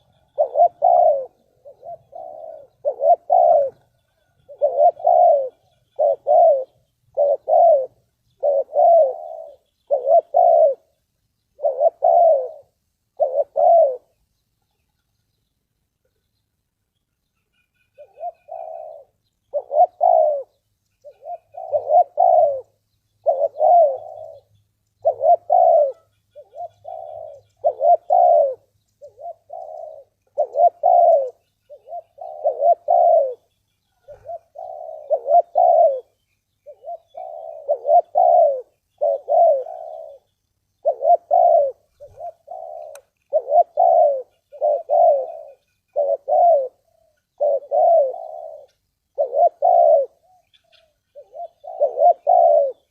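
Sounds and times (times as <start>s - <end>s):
dove cooing: 0.0s - 15.3s, 17.3s - 52.9s.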